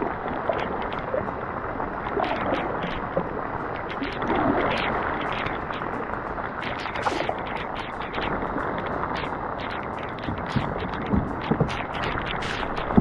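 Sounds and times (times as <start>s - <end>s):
water splashing around kayak: 0.0s - 13.0s.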